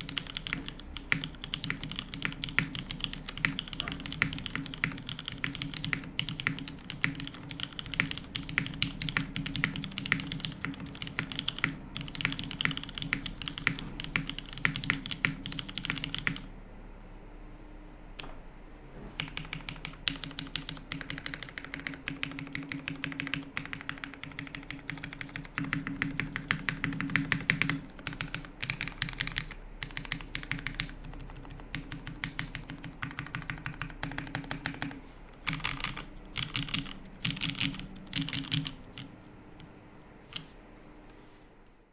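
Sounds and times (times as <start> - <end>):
mechanical keyboard typing: 0.0 - 16.5, 19.2 - 40.5.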